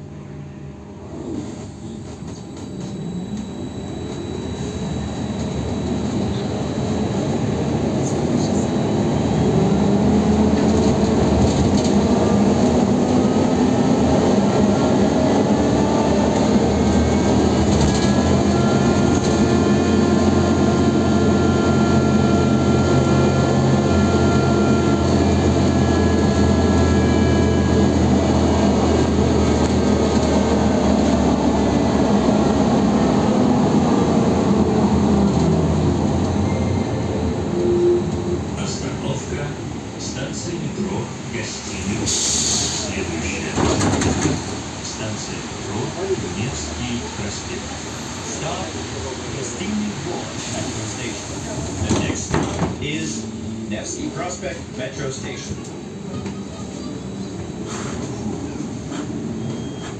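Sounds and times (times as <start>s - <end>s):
trolleybus electric drive whine: 0.0s - 59.9s.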